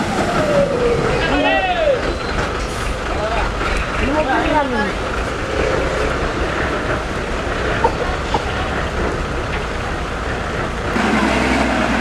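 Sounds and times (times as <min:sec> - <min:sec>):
diesel engine rumbling: 0:00.0 - 0:12.0
outdoor noise: 0:00.0 - 0:12.0.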